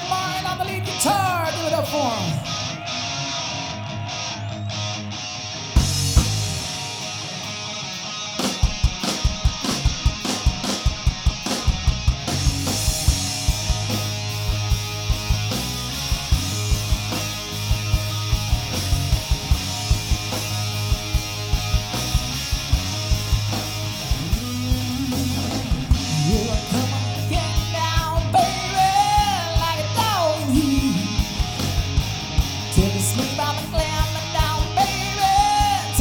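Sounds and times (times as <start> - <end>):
electric guitar and bass: 0.0 - 36.0
drum kit beat: 5.8 - 7.6, 8.3 - 36.0.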